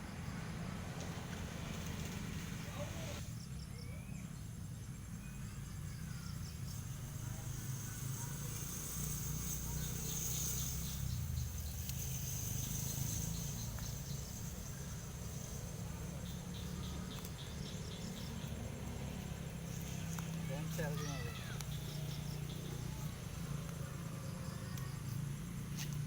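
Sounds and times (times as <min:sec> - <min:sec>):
continuous low rumble: 0:00.0 - 0:26.0
insects chirping: 0:00.0 - 0:26.0.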